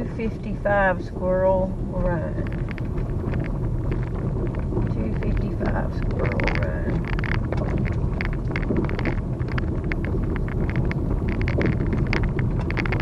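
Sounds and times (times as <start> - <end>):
tyres crackling on dirt: 0.0 - 13.0
vehicle road rumble: 0.0 - 13.0.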